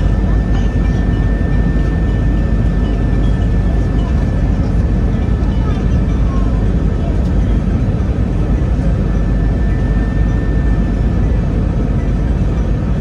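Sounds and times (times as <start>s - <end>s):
airliner engines and airflow rumble: 0.0s - 13.0s.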